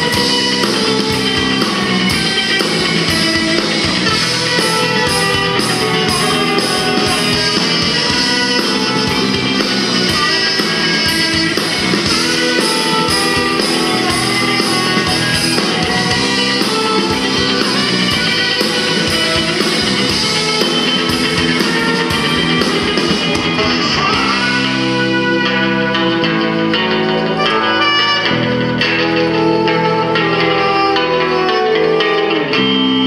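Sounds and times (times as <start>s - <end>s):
bass guitar: 0.0s - 33.0s
drum kit: 0.0s - 33.0s
electric guitar: 0.0s - 33.0s
saxophone: 0.0s - 33.0s.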